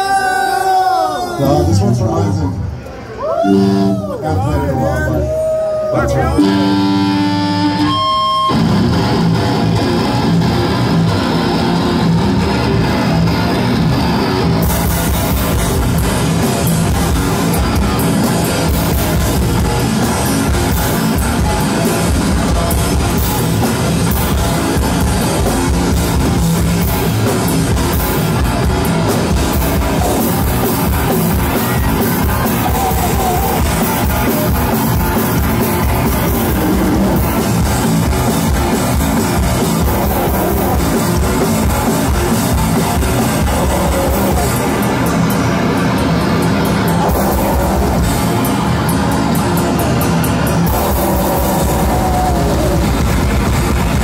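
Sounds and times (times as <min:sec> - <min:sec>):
live heavy metal band: 0:00.0 - 0:54.0.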